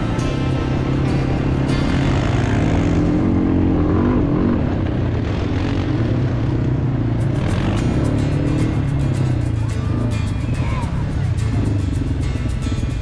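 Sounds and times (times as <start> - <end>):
small vehicle engine revving: 0.0 - 13.0.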